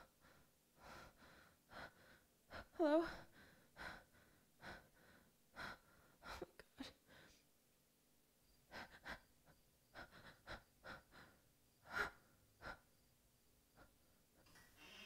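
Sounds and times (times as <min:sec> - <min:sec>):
woman breathing quickly: 0:00.0 - 0:07.5, 0:08.6 - 0:13.1, 0:13.7 - 0:15.0
movements in a room: 0:00.0 - 0:15.0.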